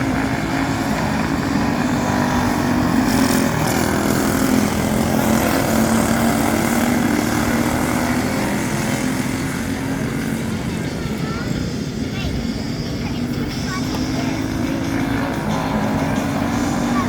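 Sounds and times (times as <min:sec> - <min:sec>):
motorcycle engines racing: 0:00.0 - 0:17.0.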